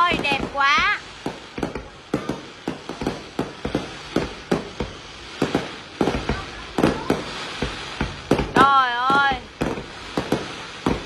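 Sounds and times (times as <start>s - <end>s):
fireworks bursting with echo: 0.0s - 11.0s.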